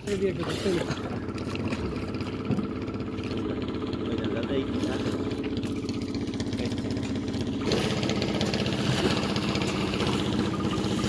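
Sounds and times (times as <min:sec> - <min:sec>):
small engine idling: 0:00.0 - 0:11.0
water splashing: 0:00.0 - 0:11.0.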